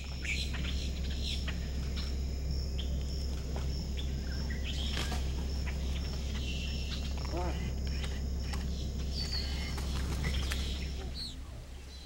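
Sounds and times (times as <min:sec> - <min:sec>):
high-pitched insect trill: 0:00.0 - 0:11.2
low hum: 0:00.0 - 0:12.0.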